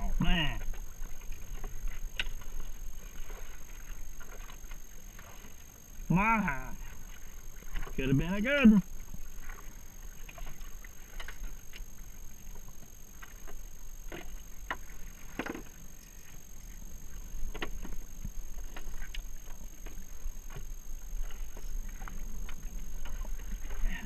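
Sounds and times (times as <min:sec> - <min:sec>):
low steady rumble: 0:00.0 - 0:24.0
water slapping against hull: 0:00.0 - 0:24.0.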